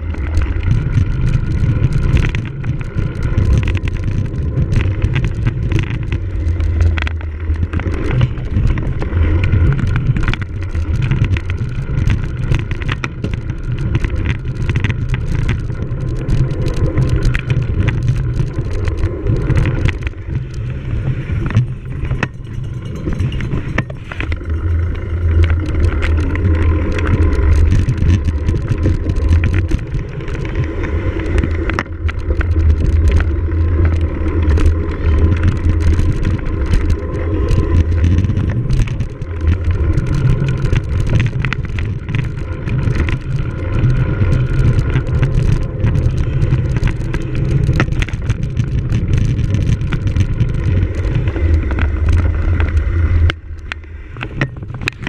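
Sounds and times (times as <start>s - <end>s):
bike rattling clicks: 0.0s - 55.0s
bike tyres rumbling: 0.0s - 55.0s.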